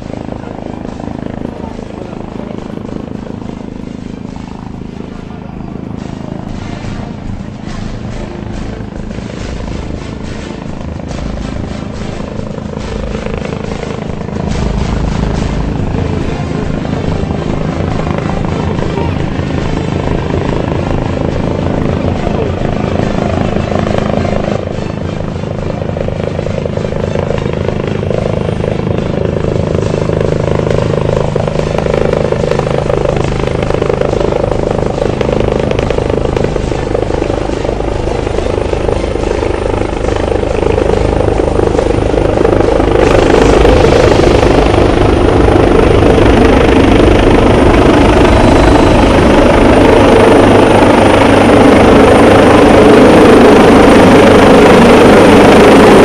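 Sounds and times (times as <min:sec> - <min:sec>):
aircraft engine roar overhead: 0:00.0 - 0:56.0.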